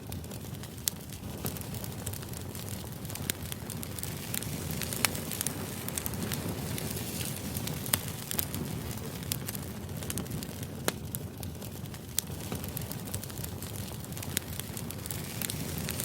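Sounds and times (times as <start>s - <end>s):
sharp crackles and clicks: 0.0s - 16.0s.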